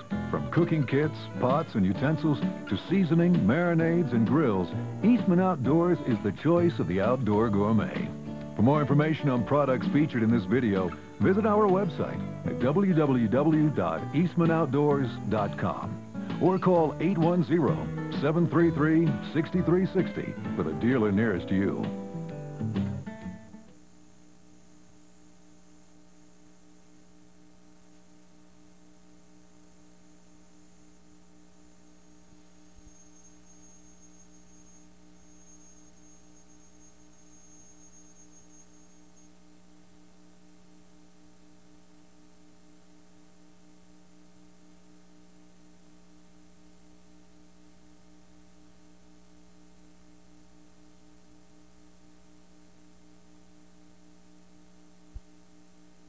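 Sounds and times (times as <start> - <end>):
faint electrical mains hum: 0.0 - 56.0.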